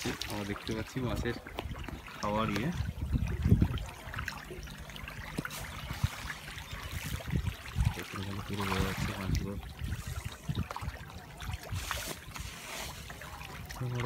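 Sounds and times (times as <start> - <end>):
fish splashing water: 0.0 - 14.0.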